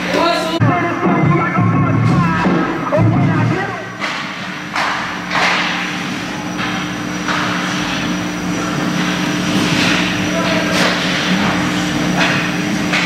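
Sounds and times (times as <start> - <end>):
low rink hum: 0.0 - 13.0.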